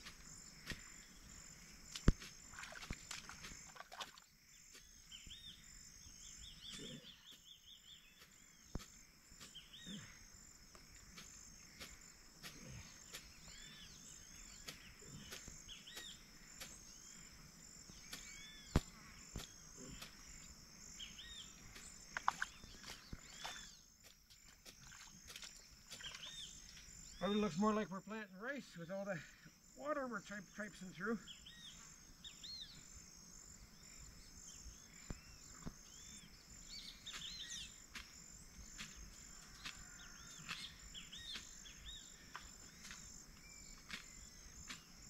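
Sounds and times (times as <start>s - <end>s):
insect chorus: 0.0s - 45.0s.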